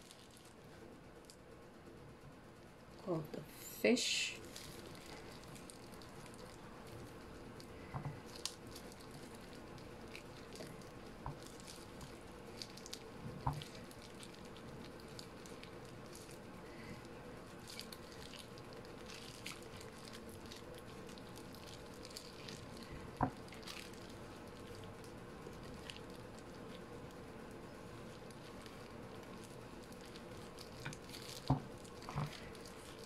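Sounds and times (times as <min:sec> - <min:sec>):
faint steady hum: 0:00.0 - 0:33.0
gloved hands handling fish: 0:04.4 - 0:33.0.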